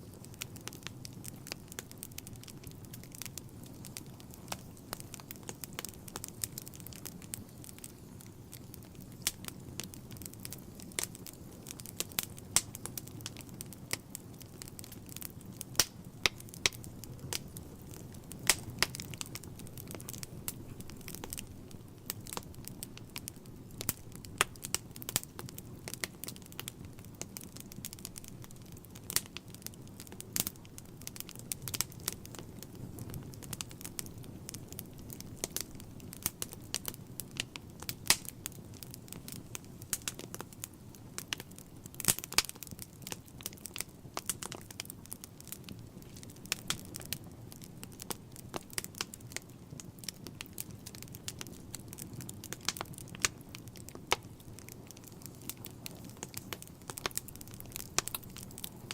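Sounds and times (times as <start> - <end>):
fire crackling and popping: 0.0 - 58.9
flames burning: 0.0 - 58.9.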